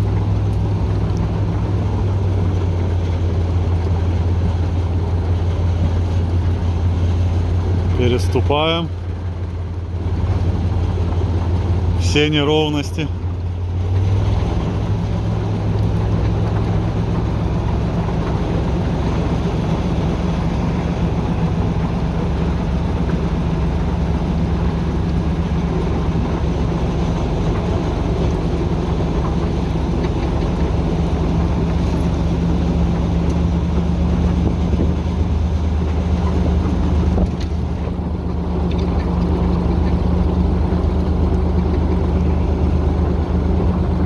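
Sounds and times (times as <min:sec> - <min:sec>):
locomotive diesel engine droning: 0:00.0 - 0:44.0
rolling rumble on track: 0:00.0 - 0:44.0.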